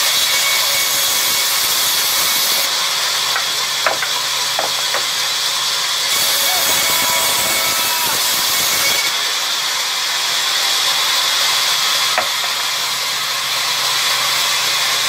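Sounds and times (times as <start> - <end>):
band saw cutting wood: 0.0 - 15.0.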